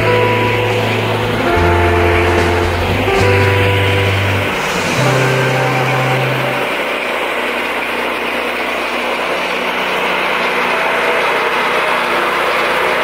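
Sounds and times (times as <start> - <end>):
small engine running steadily: 0.0 - 13.0.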